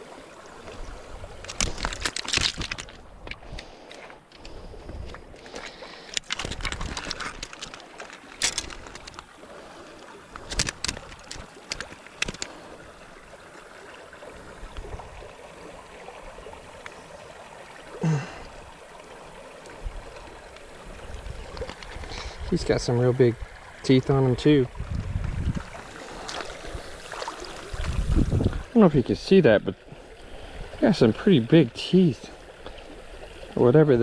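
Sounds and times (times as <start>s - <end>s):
creek water gurgling: 0.0s - 34.0s.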